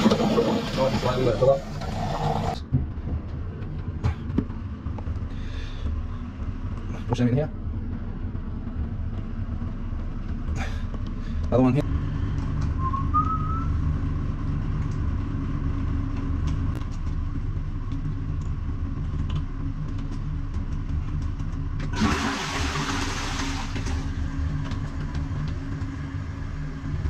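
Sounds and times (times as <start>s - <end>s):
low mechanical drone: 0.0s - 27.0s.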